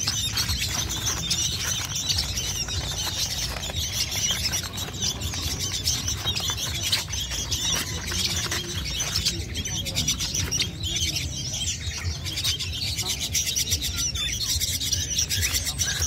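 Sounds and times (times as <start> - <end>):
young songbirds chirping: 0.0 - 16.0.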